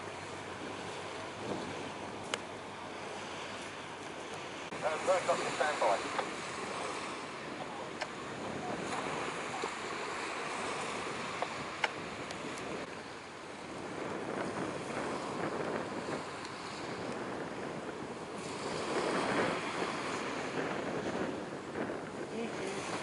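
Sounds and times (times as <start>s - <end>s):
waves washing: 0.0s - 23.0s
wind on microphone: 0.0s - 23.0s.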